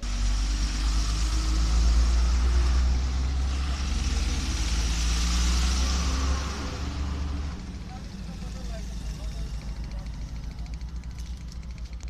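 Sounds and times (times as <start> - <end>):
traffic noise: 0.0 - 12.0
vehicle engine rumbling: 0.0 - 12.0.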